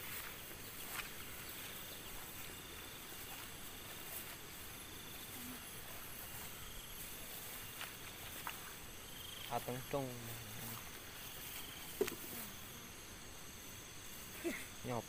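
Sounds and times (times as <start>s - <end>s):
insects hissing: 0.0s - 15.0s
rustling through tall grass: 0.0s - 15.0s.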